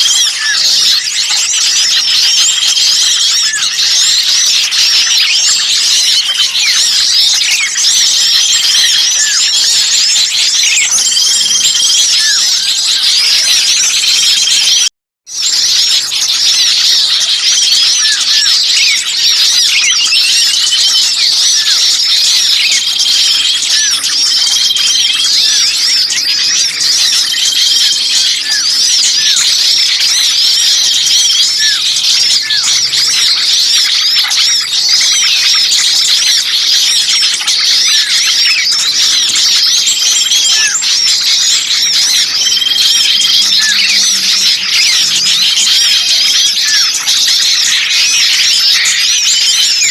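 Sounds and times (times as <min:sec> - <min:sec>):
short whistled bird notes: 0:00.0 - 0:49.9
small songbirds chirping: 0:00.0 - 0:49.9.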